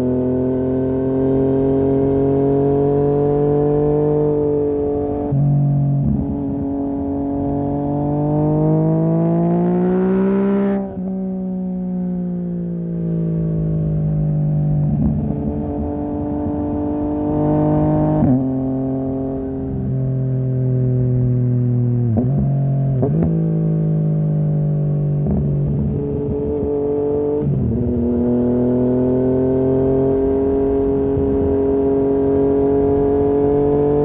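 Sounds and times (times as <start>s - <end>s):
motorcycle engine revving: 0.0s - 11.5s, 12.6s - 34.0s.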